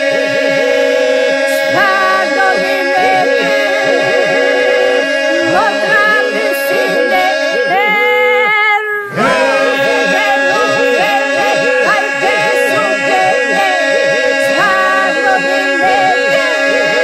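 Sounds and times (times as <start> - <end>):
group singing a steady drone: 0.0 - 17.0
solo voices singing ornaments: 0.0 - 17.0.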